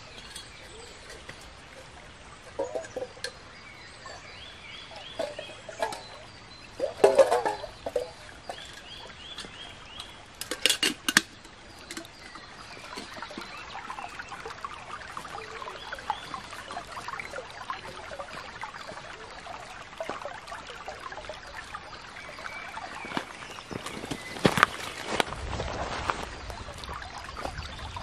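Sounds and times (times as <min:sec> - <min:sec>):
stream babbling over stones: 0:00.0 - 0:28.0.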